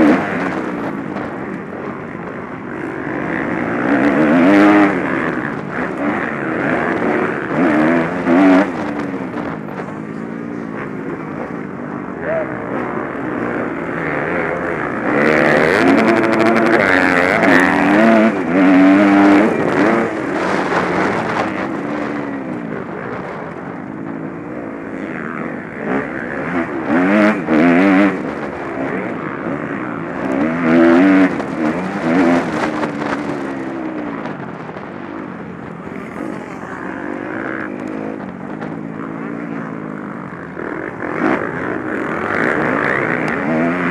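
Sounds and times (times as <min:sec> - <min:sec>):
motocross bikes revving: 0:00.0 - 0:43.9.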